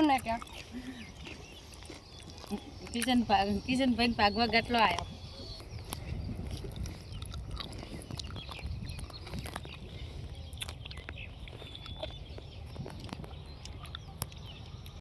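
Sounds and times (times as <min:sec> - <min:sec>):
person chewing and sucking fruit: 0:00.2 - 0:03.2, 0:05.0 - 0:15.0.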